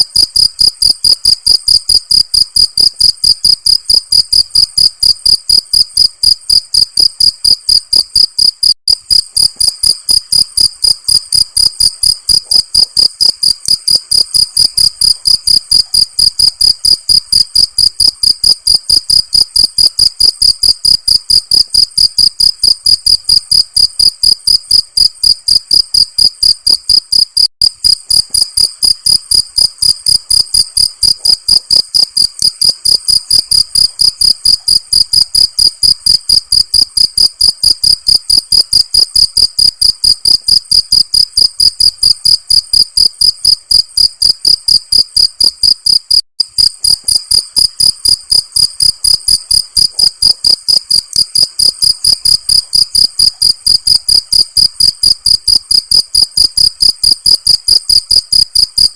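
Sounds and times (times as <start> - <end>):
cricket chirping: 0.0 - 58.9.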